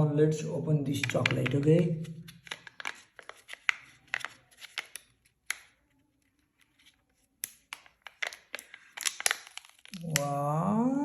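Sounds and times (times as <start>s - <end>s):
plastic egg and foil crinkling: 0.9s - 10.5s.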